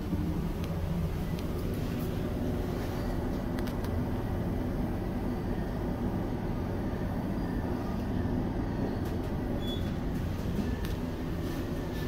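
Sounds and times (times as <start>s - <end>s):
elevator low rumble: 0.0s - 12.0s.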